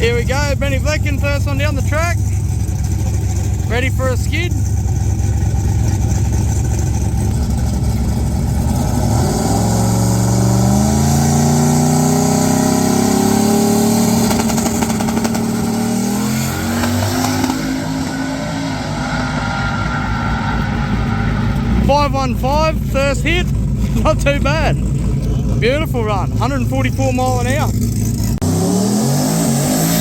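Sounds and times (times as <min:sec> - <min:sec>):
racing car engine accelerating: 0:00.0 - 0:25.7, 0:27.7 - 0:30.0.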